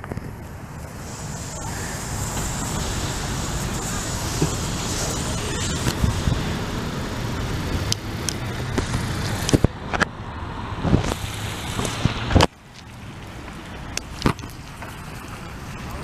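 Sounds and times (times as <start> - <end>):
road traffic passing cars: 0.0 - 16.0.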